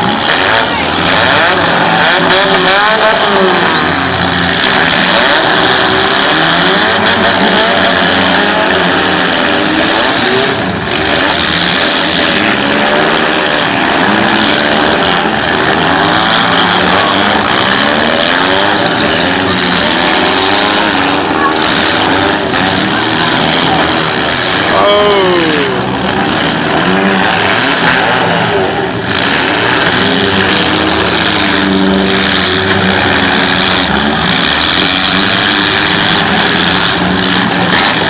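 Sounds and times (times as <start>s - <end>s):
car engines revving together: 0.0s - 38.0s.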